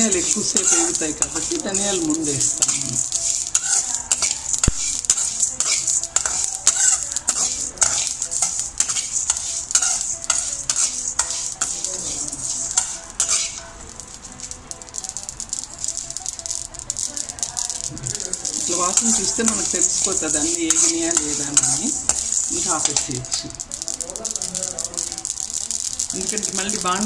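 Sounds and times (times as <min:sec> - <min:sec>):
metal spoon scraping metal pan: 0:00.0 - 0:24.0
spices rattling and hissing in pan: 0:00.0 - 0:27.0.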